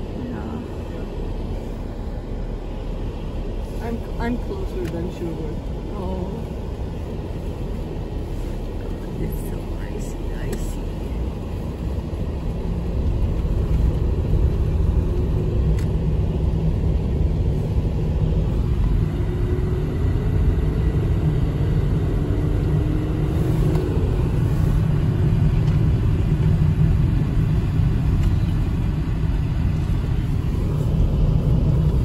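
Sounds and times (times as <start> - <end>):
car road noise rumble: 0.0 - 32.0.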